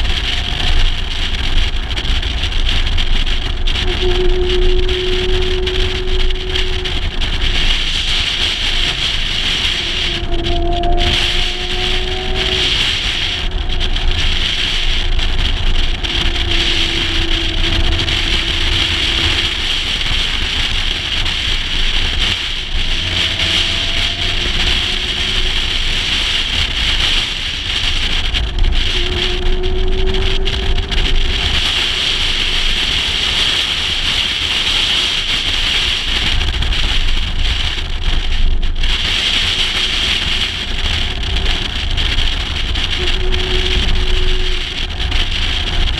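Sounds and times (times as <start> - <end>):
wind rumbling over microphone: 0.0 - 45.9.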